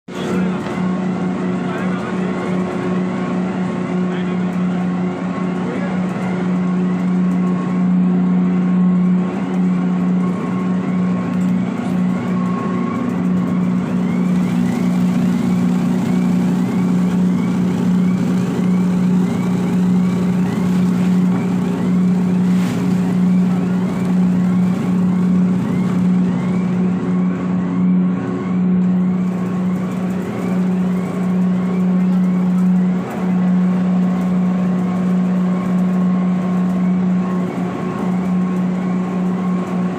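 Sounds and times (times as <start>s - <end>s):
grinding machine humming: 0.1s - 39.9s.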